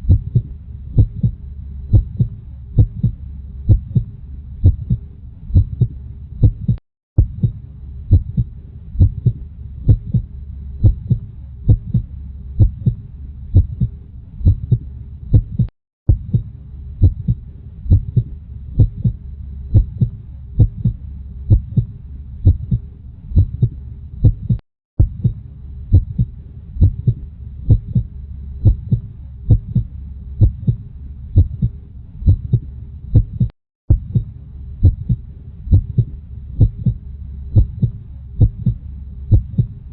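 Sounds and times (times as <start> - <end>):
heartbeat thumps: 0.0 - 39.8
low hum: 0.0 - 39.9.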